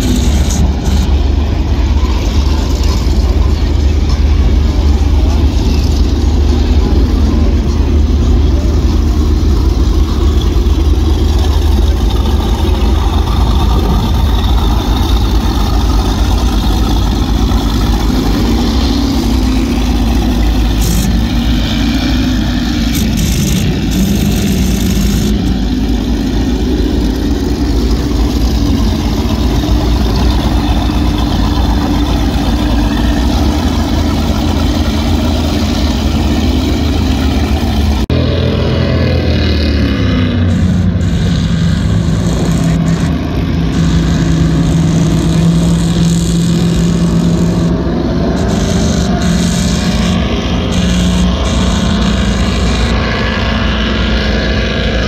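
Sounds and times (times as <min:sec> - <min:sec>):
powerboat engines rumbling: 0:00.0 - 0:55.0.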